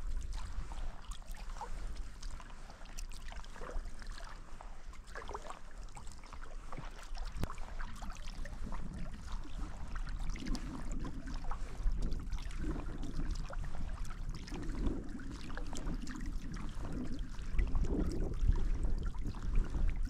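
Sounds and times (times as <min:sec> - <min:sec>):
kayak paddle strokes: 0:00.0 - 0:20.0
low steady rumble: 0:00.0 - 0:20.0
water drips and splashes: 0:00.0 - 0:20.0
water lapping at hull: 0:00.0 - 0:20.0.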